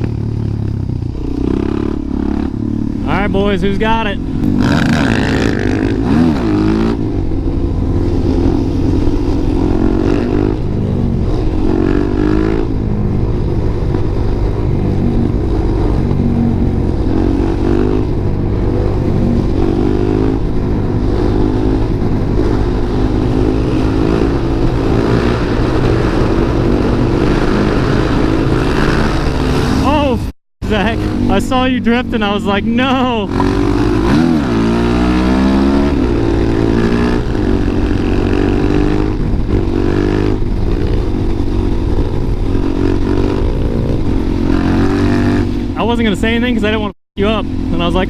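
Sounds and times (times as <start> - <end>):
motorcycle engine shifting gears: 0.0 - 48.0.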